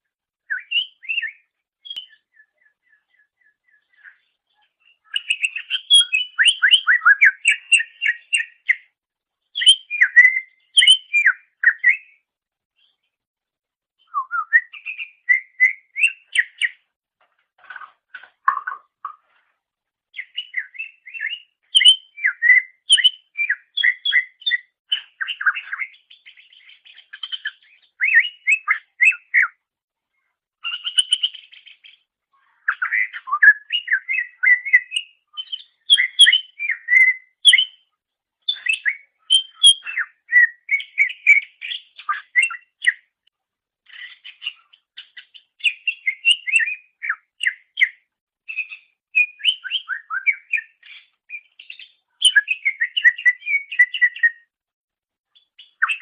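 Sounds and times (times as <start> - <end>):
bird singing whistled trills: 0.4 - 9.0, 9.6 - 12.3, 14.0 - 16.8, 20.2 - 29.6, 30.6 - 37.9, 38.5 - 43.1, 43.9 - 54.5, 55.4 - 56.0.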